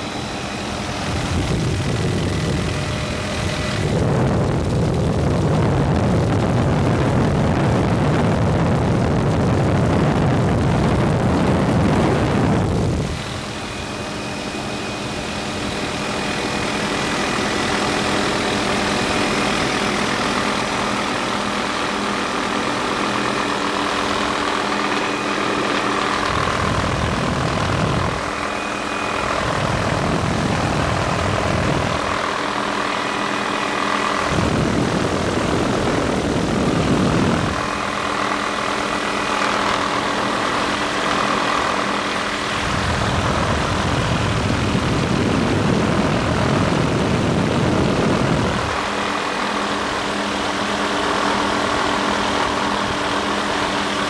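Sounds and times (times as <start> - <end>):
helicopter engine and rotor drone: 0.0 - 54.0
wind gusts on microphone: 0.0 - 54.0.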